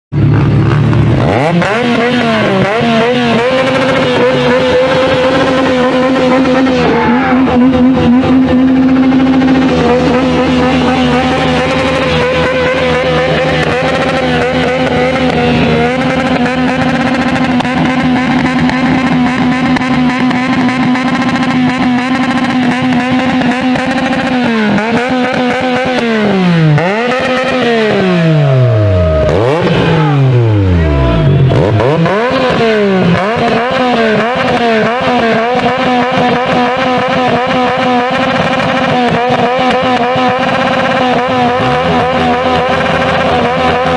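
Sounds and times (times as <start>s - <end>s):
petrol engine on rev limiter: 0.1s - 43.9s.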